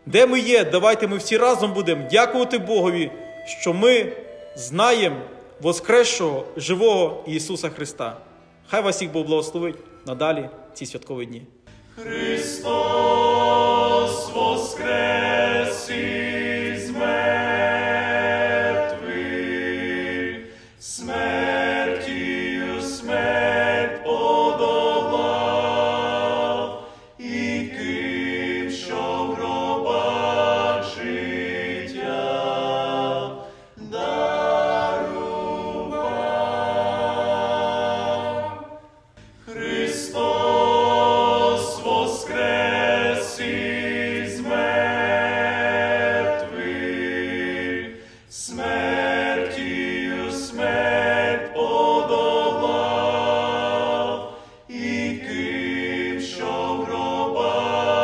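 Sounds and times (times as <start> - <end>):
unaccompanied choir singing: 0.0 - 7.1, 11.7 - 58.0.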